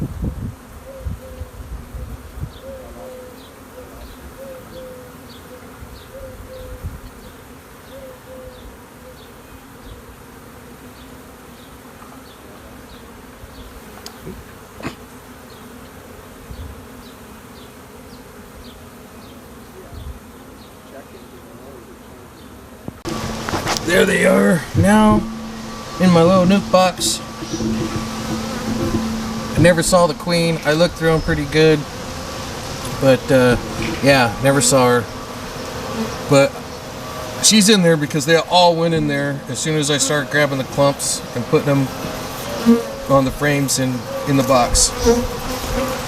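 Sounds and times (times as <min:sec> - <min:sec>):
bees buzzing: 0:02.2 - 0:46.0.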